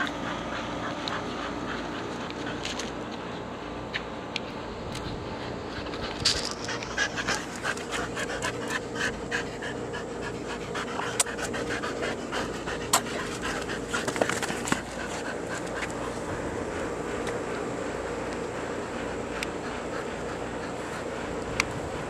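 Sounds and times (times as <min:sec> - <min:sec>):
dog panting rapidly: 0:00.0 - 0:03.3, 0:05.3 - 0:22.0.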